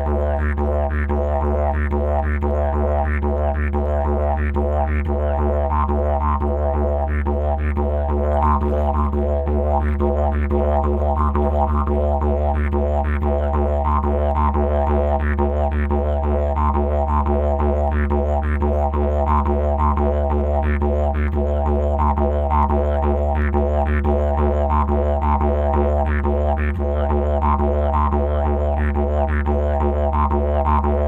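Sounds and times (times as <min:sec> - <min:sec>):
didgeridoo droning: 0:00.0 - 0:31.0.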